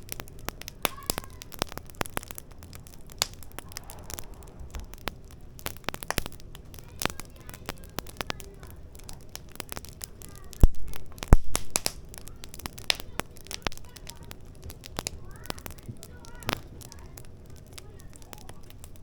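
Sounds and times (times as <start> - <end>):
firewood crackling: 0.0 - 19.0
loud pops of fire: 0.0 - 19.0.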